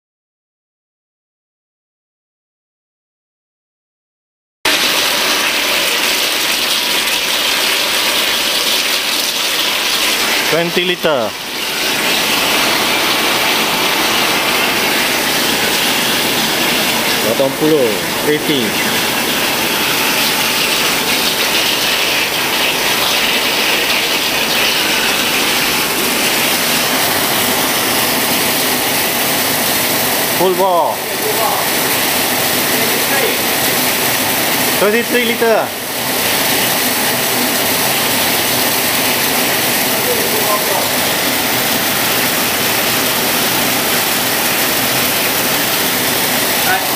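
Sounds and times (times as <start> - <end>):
water rushing into roof drain: 4.7 - 46.9.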